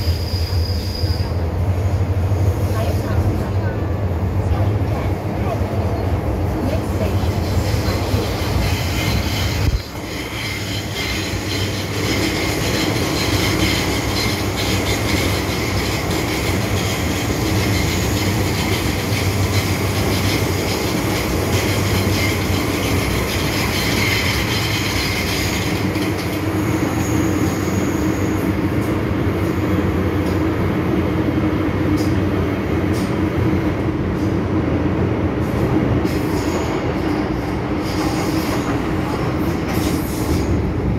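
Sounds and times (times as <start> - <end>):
train motors and wheels rumbling: 0.0 - 40.9.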